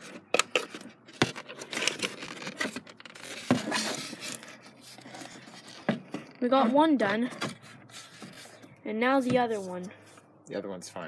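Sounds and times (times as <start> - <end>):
plastic scraping and rubbing: 0.0 - 9.8.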